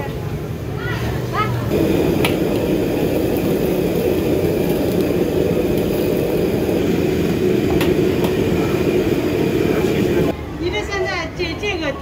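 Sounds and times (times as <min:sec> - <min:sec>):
gas burner roaring: 0:00.2 - 0:10.4.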